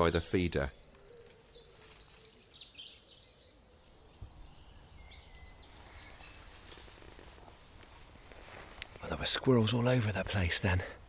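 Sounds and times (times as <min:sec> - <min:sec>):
background hiss: 0:00.0 - 0:11.0
faint birdsong chirps: 0:00.0 - 0:11.0.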